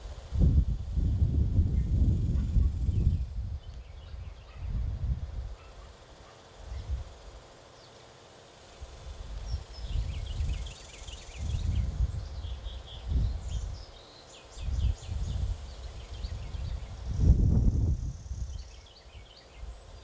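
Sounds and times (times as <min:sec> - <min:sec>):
small birds chirping: 0:01.6 - 0:20.0.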